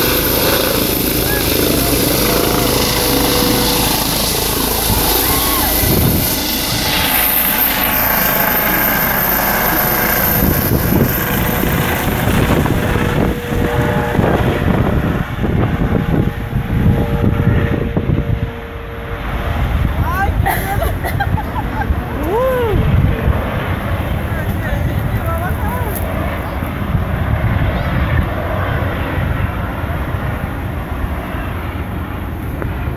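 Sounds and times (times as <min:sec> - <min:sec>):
helicopter turbine and rotor noise: 0:00.0 - 0:32.9.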